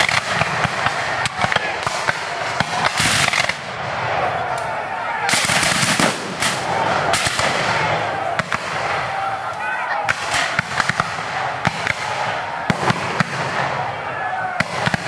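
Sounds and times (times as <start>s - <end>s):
musket fire: 0.0s - 4.5s, 5.2s - 9.3s, 10.0s - 15.0s.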